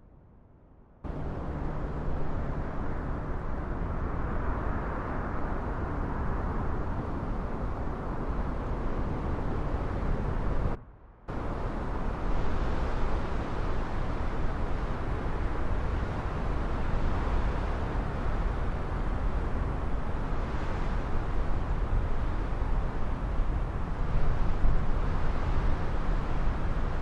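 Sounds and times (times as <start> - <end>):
wind on microphone rumble: 1.1 - 27.0.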